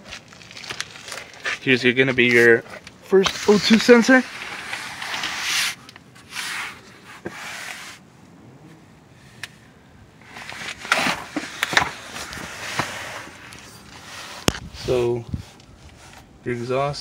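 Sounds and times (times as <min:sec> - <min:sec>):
scraping and rustling under truck: 0:00.0 - 0:08.0, 0:10.2 - 0:16.3.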